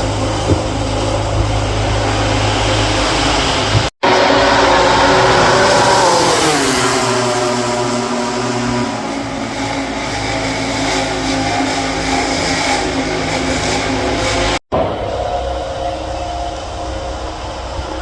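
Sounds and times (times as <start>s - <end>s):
racing motorcycle engine high revs: 0.0s - 18.0s.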